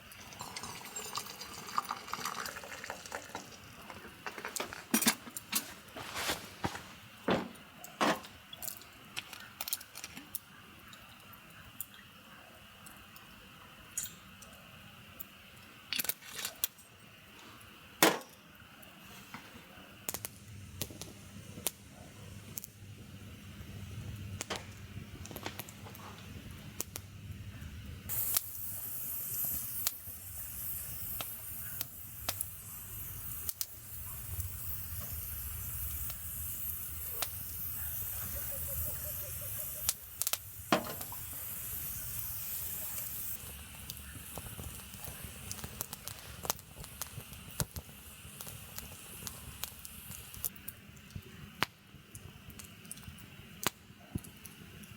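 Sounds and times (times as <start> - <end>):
fire popping and snapping: 0.0 - 10.5, 20.0 - 54.9
wood campfire burning: 0.0 - 12.0, 20.0 - 54.9
steady hiss: 0.0 - 54.9.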